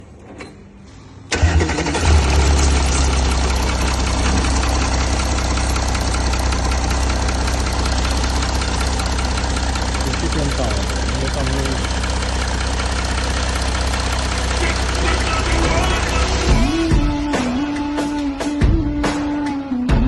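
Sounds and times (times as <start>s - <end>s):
diesel engine starting and idling: 1.0s - 17.4s.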